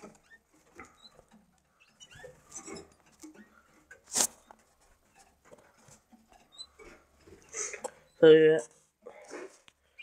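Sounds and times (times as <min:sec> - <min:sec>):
birds shuffling in cages: 0:00.0 - 0:08.6.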